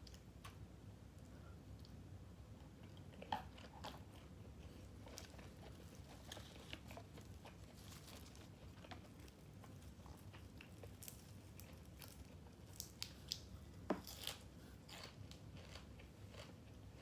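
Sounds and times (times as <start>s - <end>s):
person chewing: 2.6s - 17.0s.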